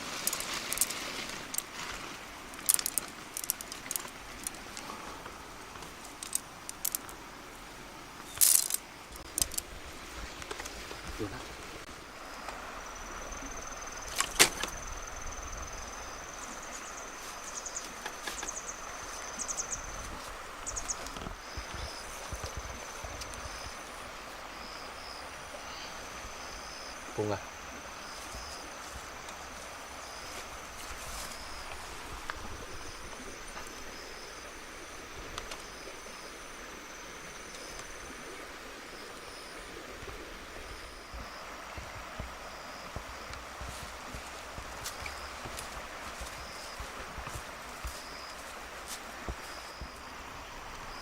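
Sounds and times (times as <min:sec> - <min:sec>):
insect trilling: 0:00.0 - 0:09.8, 0:12.1 - 0:51.0
steady hiss: 0:00.0 - 0:51.0.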